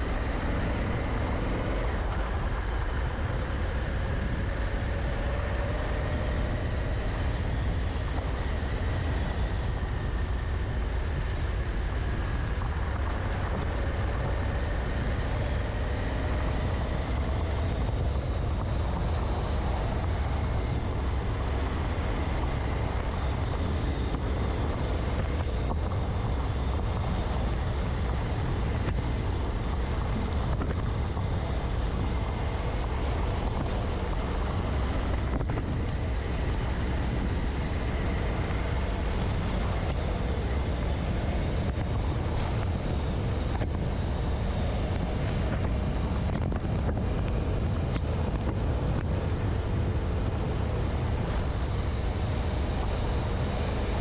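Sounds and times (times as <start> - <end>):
motorcycle engine cruising: 0.0 - 54.0
wind rumble on microphone: 0.0 - 54.0.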